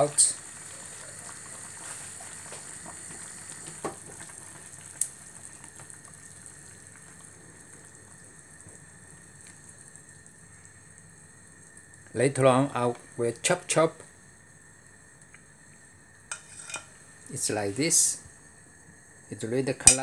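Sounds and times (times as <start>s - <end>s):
liquid simmering in a pot: 0.0s - 20.0s.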